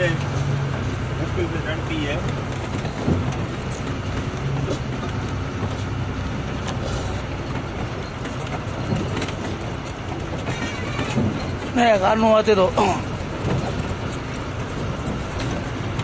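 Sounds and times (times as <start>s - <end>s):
knocks and rattles: 0.0s - 16.0s
truck diesel engine pulling: 0.0s - 16.0s.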